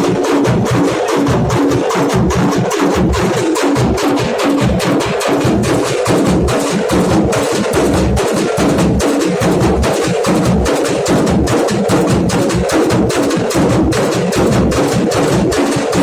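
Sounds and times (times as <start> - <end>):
drums beaten in fast rhythm: 0.0 - 16.0.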